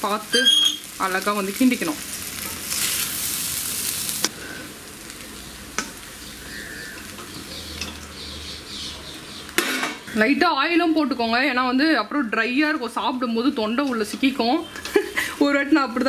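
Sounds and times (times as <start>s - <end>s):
rice sizzling in a pan: 0.0s - 10.3s, 13.0s - 16.0s.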